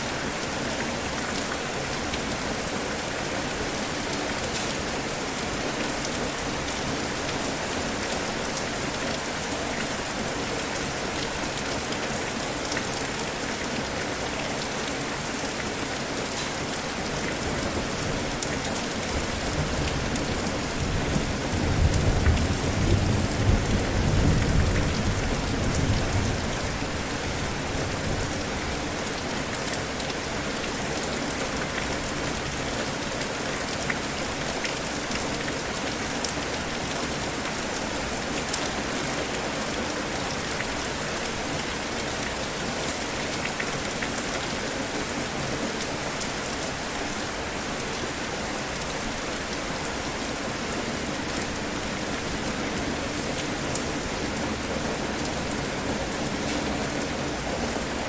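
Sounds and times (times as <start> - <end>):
heavy rainfall: 0.0 - 58.0.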